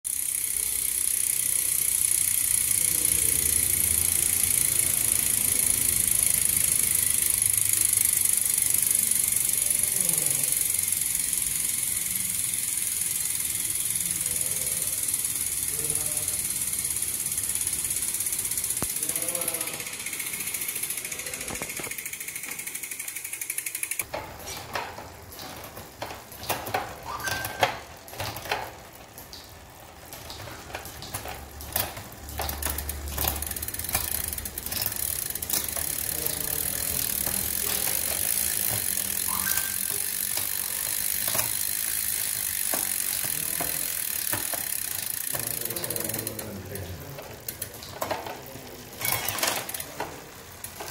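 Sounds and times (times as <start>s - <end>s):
freewheel ratchet clicks: 0.1s - 24.2s, 29.7s - 48.2s, 49.0s - 50.9s
bicycle chain whirring: 0.1s - 50.9s.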